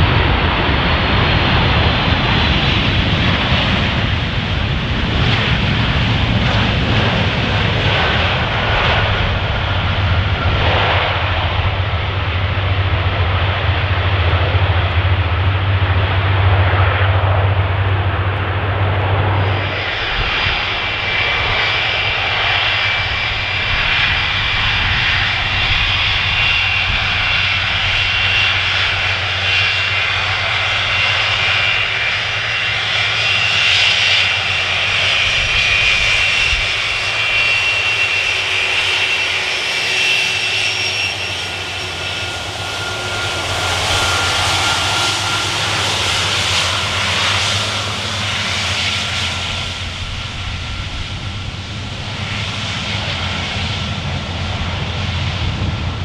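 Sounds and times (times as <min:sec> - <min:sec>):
jet engines with fan whine: 0:00.0 - 0:56.0
lower whine: 0:00.0 - 0:56.0
wind buffeting microphone: 0:00.0 - 0:56.0.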